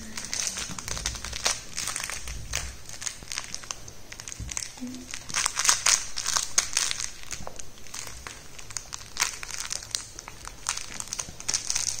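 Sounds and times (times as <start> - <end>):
plush toy crinkly rattling: 0.0 - 12.0.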